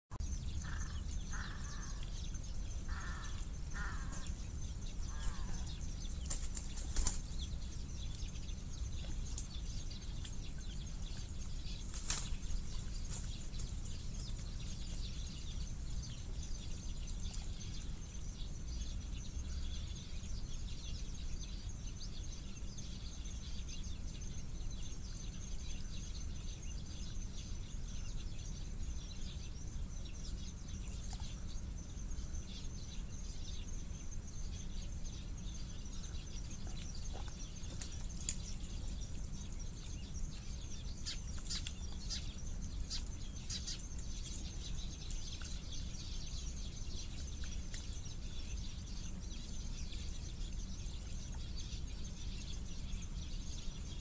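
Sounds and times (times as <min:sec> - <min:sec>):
bird calls: 0:00.1 - 0:20.9, 0:27.8 - 0:54.0.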